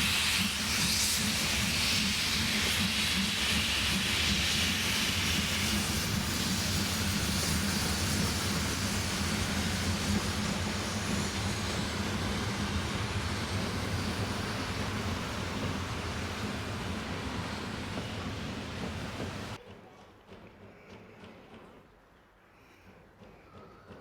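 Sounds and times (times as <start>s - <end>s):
steam hiss: 0.0s - 19.6s
steam train rumbling: 0.0s - 19.6s.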